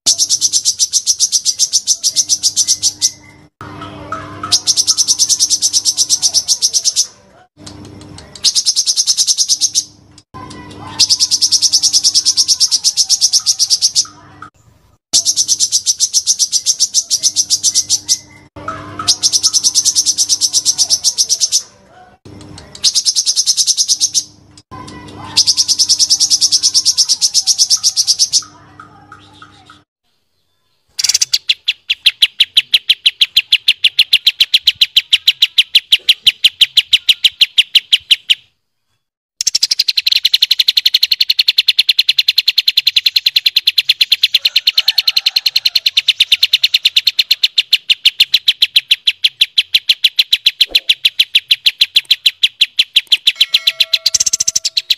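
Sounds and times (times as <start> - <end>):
bird song rattling trills: 0.1 - 7.2, 8.1 - 21.7, 22.6 - 29.8, 30.5 - 54.9.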